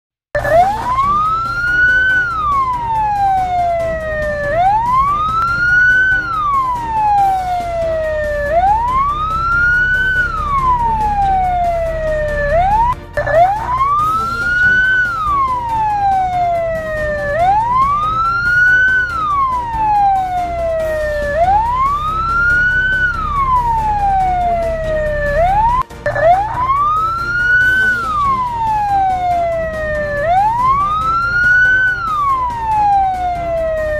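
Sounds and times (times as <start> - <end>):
emergency vehicle siren wailing: 0.4 - 33.9.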